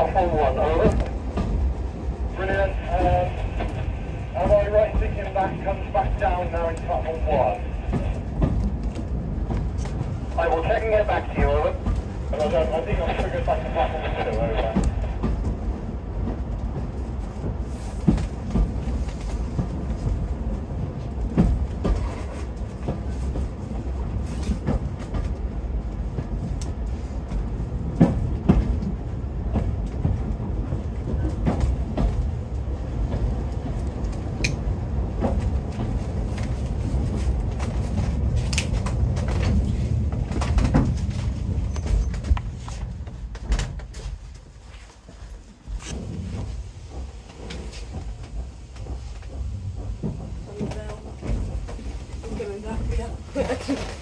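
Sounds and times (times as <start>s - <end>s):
track clicks and knocks: 0.0s - 54.0s
train wheels rumbling on rails: 0.0s - 54.0s.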